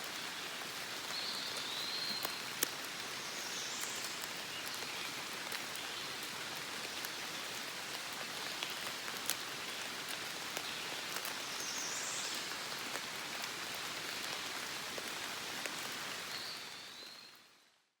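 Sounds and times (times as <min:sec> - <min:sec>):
rain on leaves: 0:00.0 - 0:17.8.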